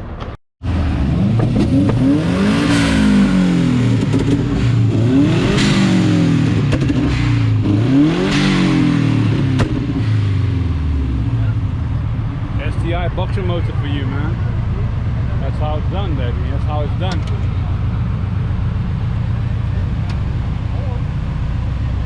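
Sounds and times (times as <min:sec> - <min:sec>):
car engine revving: 0:00.6 - 0:22.0.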